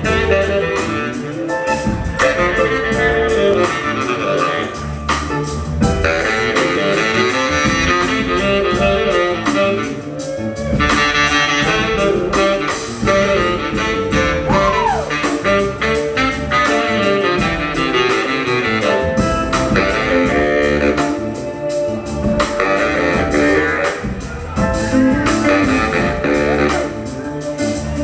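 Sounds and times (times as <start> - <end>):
horns playing: 0.0 - 28.0
steady drum beat: 0.0 - 28.0.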